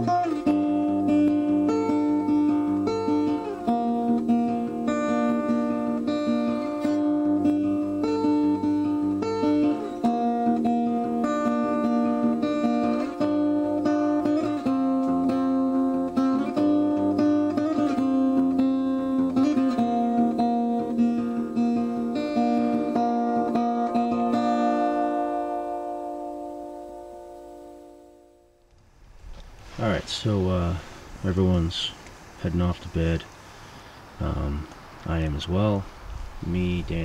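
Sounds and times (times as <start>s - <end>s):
acoustic guitar strumming: 0.0s - 35.7s.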